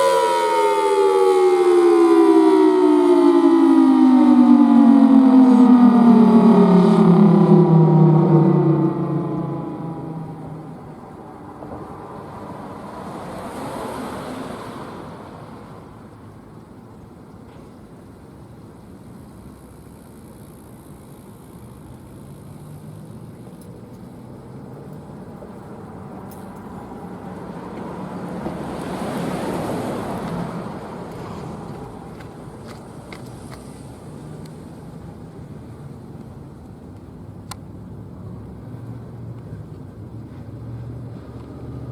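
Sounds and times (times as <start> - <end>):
cars passing: 0.0 - 17.0, 22.2 - 41.9
steady traffic background: 0.0 - 41.9.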